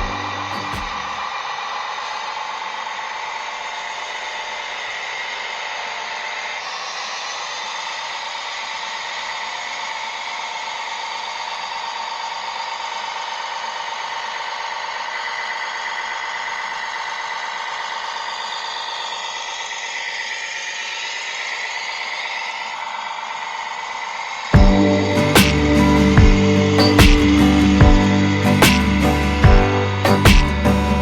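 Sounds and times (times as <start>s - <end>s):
small electric motor whining: 0.0s - 31.0s.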